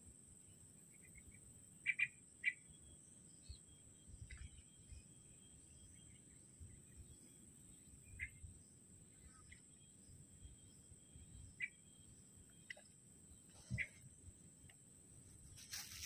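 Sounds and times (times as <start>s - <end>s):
steady high-pitched whine: 0.0s - 16.0s
bird chirping: 0.4s - 14.8s.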